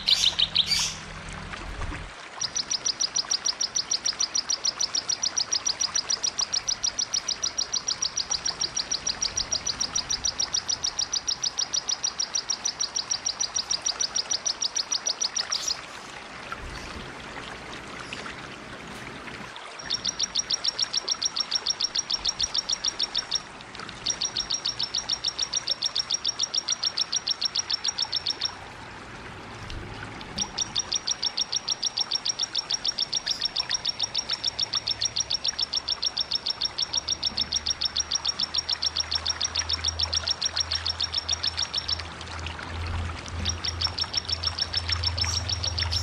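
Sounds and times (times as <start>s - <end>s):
songbird rapid trill: 0.0s - 1.1s, 2.4s - 16.1s, 19.8s - 28.6s, 30.3s - 42.1s, 43.4s - 46.0s.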